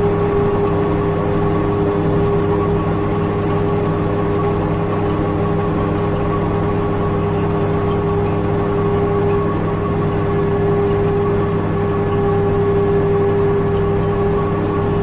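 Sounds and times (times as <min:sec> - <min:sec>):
aircraft engine and propeller drone: 0:00.0 - 0:15.0.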